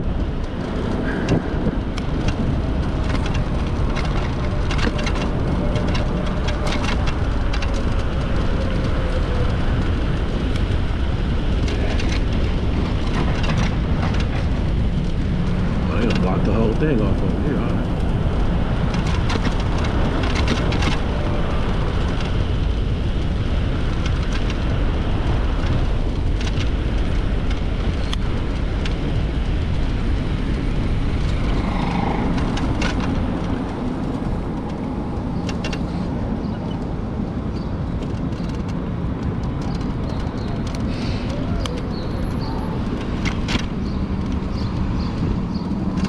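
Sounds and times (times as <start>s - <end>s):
street traffic noise: 0.0s - 46.0s
wind buffeting microphone: 0.0s - 46.0s
small clicks and rattles: 0.1s - 46.0s.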